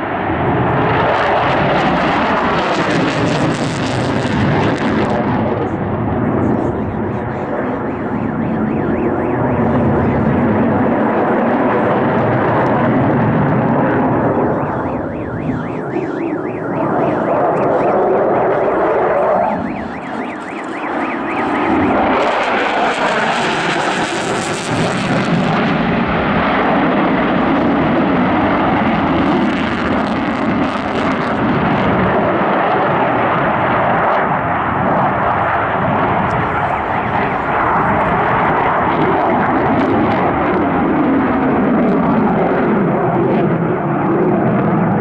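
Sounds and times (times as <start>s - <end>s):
fighter jet engine roar: 0.0s - 45.0s.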